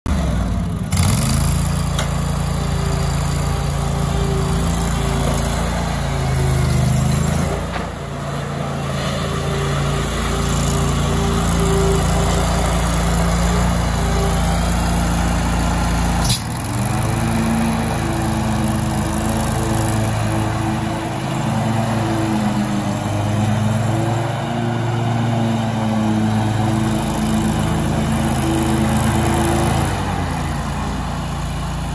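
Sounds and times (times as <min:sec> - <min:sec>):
lawn mower engine running: 0:00.1 - 0:31.9.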